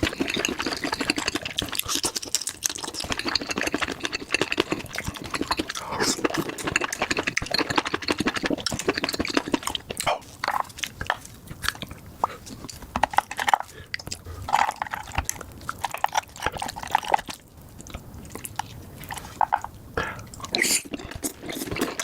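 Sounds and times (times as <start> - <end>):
chewing mouth clicks and smacks: 0.0 - 22.0.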